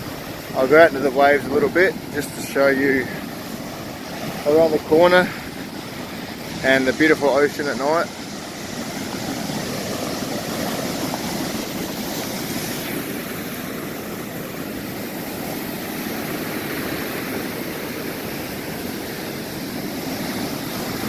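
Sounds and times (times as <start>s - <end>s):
stormy ocean surf roaring: 0.0s - 21.0s.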